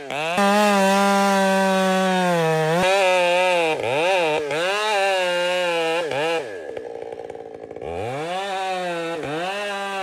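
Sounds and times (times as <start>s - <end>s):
chainsaw running at high revs: 0.0s - 10.0s.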